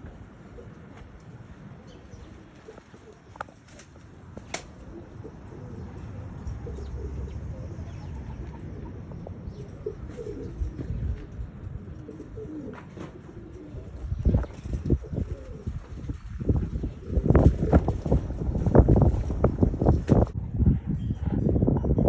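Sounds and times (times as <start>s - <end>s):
pigeons cooing: 0.4s - 18.7s.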